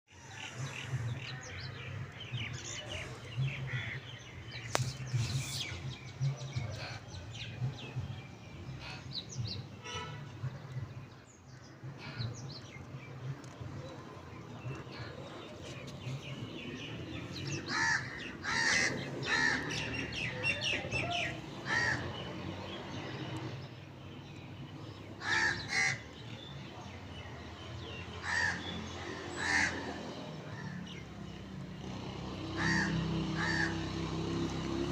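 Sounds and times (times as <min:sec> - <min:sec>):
birds chirping and calling: 0:00.1 - 0:34.9.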